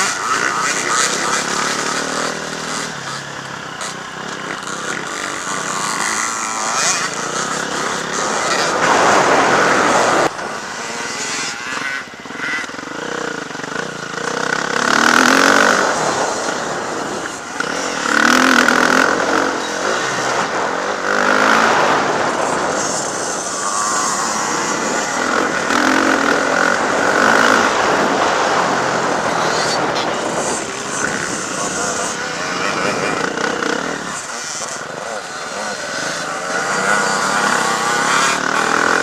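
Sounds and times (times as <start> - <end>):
motocross motorcycle engines revving: 0.0 - 39.0.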